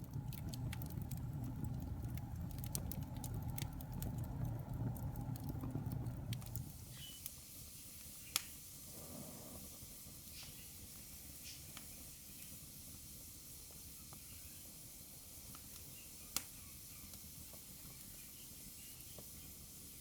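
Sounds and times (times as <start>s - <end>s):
wood fire crackling and popping: 0.0s - 8.8s, 9.6s - 20.0s
low rumble of flames: 0.0s - 20.0s.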